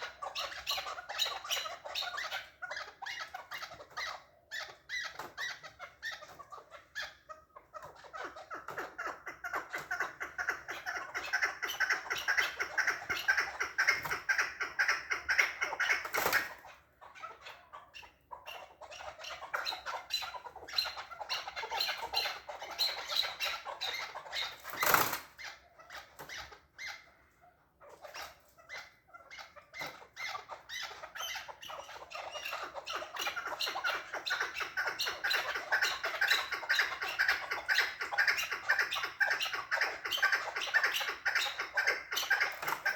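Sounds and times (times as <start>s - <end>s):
partridge clucking calls: 0.0s - 42.9s.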